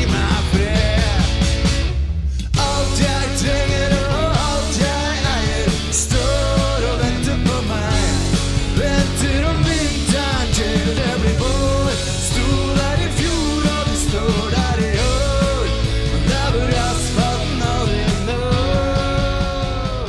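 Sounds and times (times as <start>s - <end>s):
person singing lead vocal: 0.0s - 1.6s, 2.4s - 20.0s
rock band playing: 0.0s - 20.0s.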